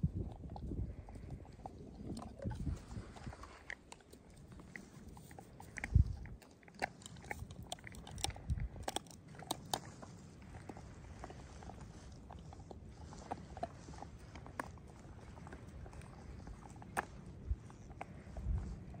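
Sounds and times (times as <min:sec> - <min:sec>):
dogs crunching bones: 0:00.0 - 0:19.0.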